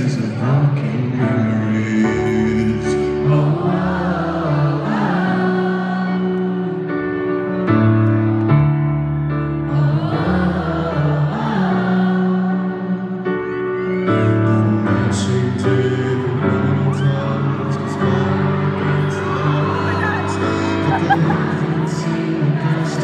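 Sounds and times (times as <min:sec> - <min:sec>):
person singing: 0:00.0 - 0:07.6, 0:09.4 - 0:23.0
grand piano chords: 0:00.0 - 0:23.0.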